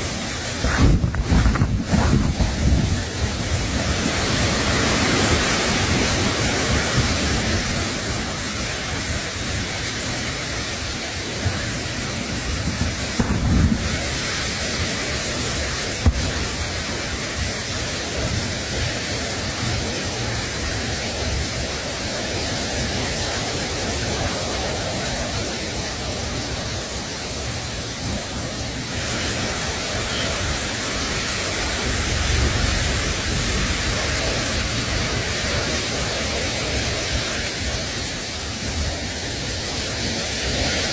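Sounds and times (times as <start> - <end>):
steady rushing noise: 0.0 - 40.9.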